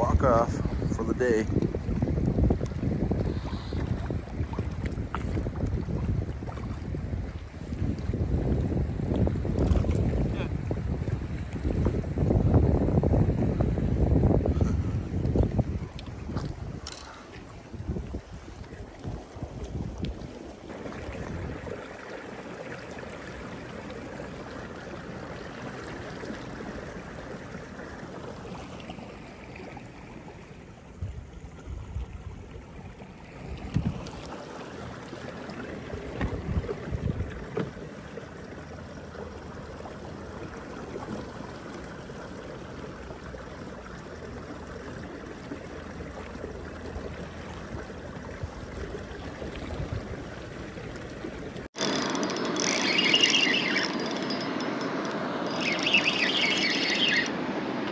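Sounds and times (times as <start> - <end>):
water splashing along kayak hull: 0.0 - 57.9.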